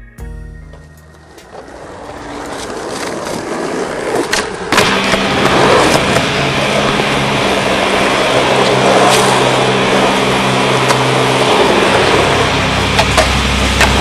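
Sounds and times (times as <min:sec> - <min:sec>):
skateboard wheels rolling on asphalt: 0:00.7 - 0:14.0.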